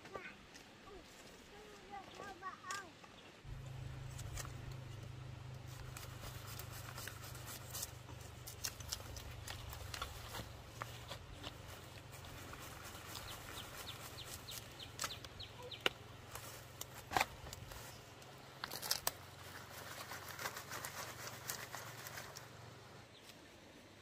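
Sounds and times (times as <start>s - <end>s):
leaves and grass rustling: 0.1s - 24.0s.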